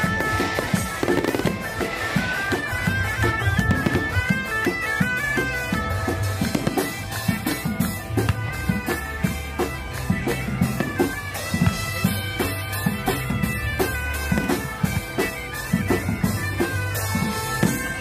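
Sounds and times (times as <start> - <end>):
reed-like wind melody: 0.0 - 18.0
steady drum beat: 0.0 - 18.0.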